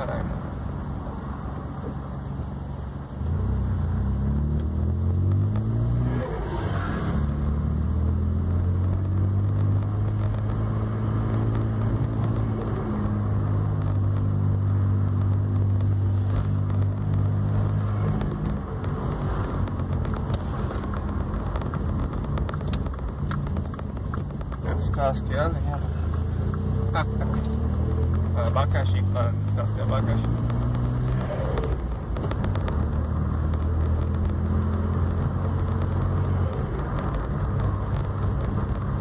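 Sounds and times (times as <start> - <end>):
car engine changing gear: 1.6 - 39.0.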